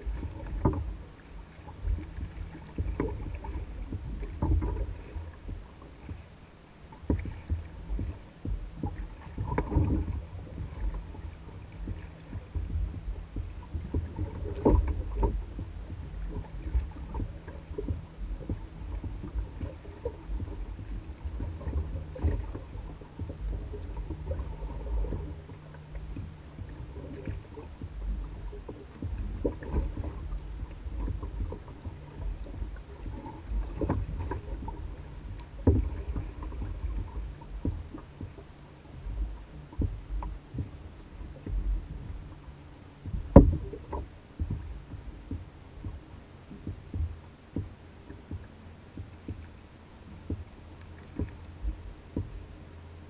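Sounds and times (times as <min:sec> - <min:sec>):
faint low rumble: 0:00.0 - 0:53.0
water lapping against canoe hull: 0:00.0 - 0:53.0
knocks against hull: 0:07.0 - 0:42.2, 0:43.0 - 0:49.5, 0:50.2 - 0:52.4.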